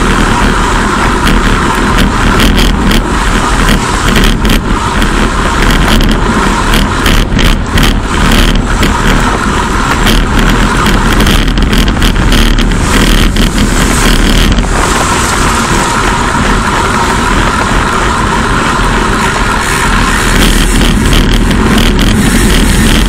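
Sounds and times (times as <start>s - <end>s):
motor traffic: 0.0s - 23.0s
road noise: 0.0s - 23.0s
wind rush: 0.0s - 23.0s.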